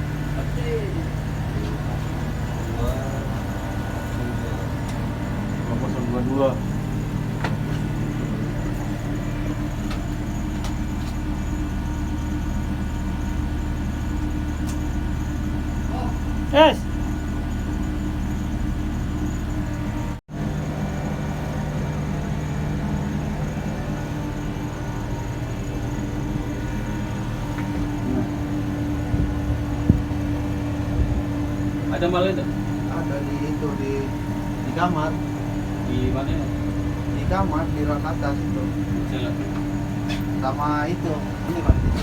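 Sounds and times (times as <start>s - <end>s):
ship machinery drone: 0.0s - 42.0s.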